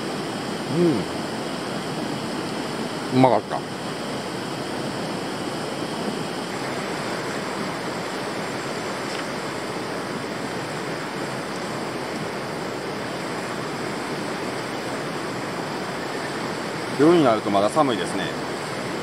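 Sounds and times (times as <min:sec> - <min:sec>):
river flowing over rocks: 0:00.0 - 0:19.0.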